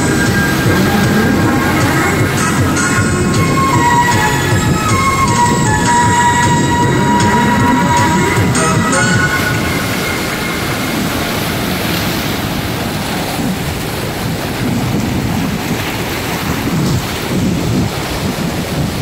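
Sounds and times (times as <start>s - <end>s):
wind rumbling on microphone: 0.0s - 8.9s, 9.5s - 19.0s
sea waves washing: 0.0s - 19.0s.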